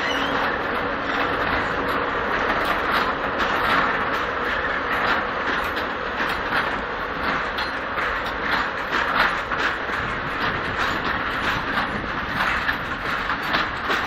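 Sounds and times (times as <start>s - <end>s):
wheels clacking on rail joints: 0.0s - 14.0s
wheels rumbling on track: 0.0s - 14.0s.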